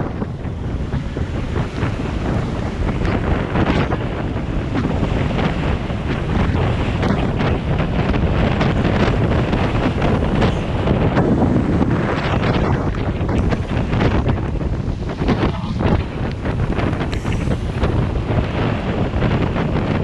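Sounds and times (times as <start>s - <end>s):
vehicle travelling on wet road: 0.0s - 20.0s
wind buffeting microphone: 0.0s - 20.0s.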